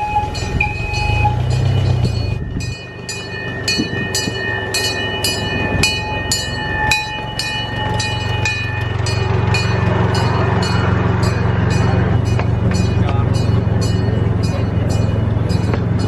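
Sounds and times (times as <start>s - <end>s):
miniature train running on track: 0.0s - 16.0s.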